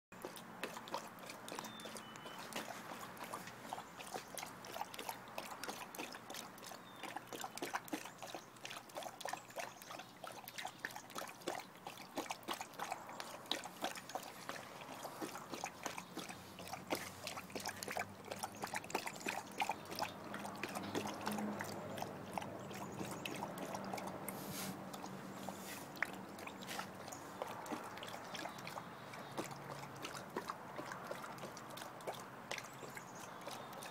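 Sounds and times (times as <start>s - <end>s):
dog lapping water from bowl: 0.2s - 33.9s.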